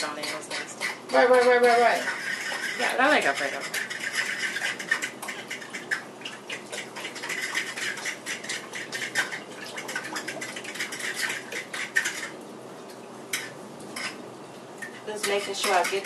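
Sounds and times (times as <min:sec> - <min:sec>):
cheese grating on metal grater: 0:00.0 - 0:12.3, 0:15.2 - 0:16.0.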